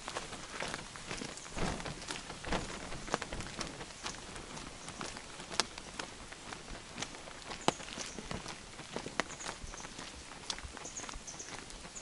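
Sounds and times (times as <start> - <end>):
footsteps on wet pavement: 0.0 - 12.0.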